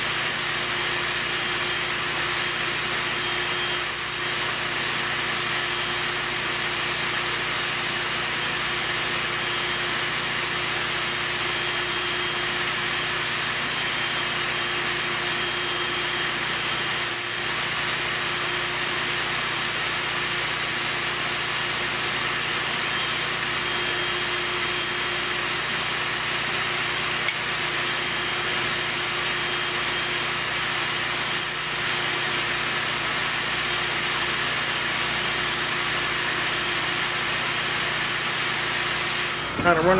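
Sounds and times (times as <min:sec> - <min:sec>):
vacuum running: 0:00.0 - 0:39.9.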